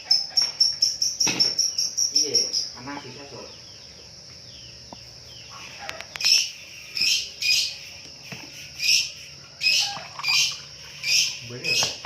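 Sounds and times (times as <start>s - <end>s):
bird chirping: 0.0s - 12.0s
high insect drone: 0.0s - 12.0s.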